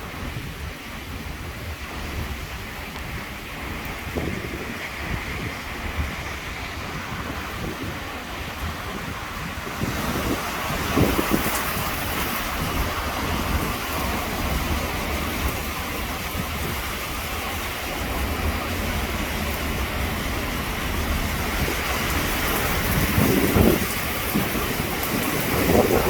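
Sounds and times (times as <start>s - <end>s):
heavy rain: 0.0s - 26.0s
wind buffeting microphone: 0.0s - 26.0s.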